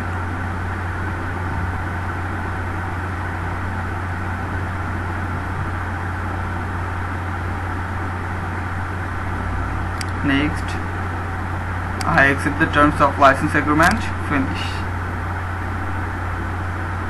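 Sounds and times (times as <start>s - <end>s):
microphone hum and hiss: 0.0s - 17.0s.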